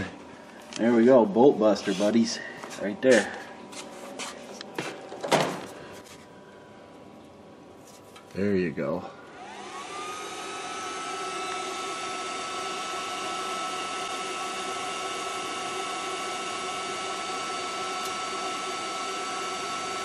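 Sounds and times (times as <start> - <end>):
induction heater whining and hissing: 0.0 - 20.0.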